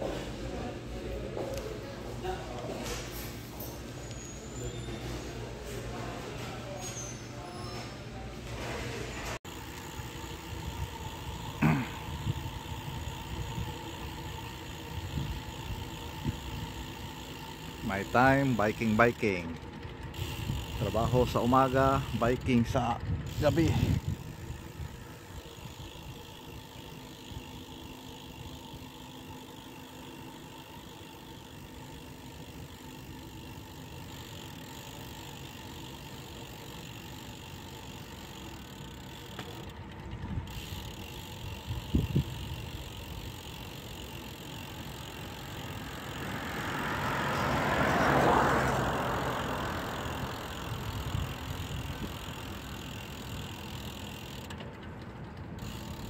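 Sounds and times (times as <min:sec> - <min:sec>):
wind: 0:00.0 - 0:56.0
road noise: 0:09.2 - 0:56.0
bicycle freewheel ticking: 0:09.4 - 0:56.0.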